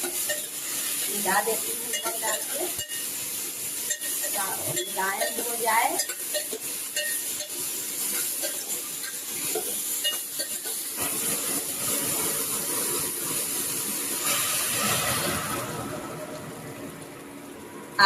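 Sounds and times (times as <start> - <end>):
vegetables sizzling in hot oil: 0.0 - 16.4.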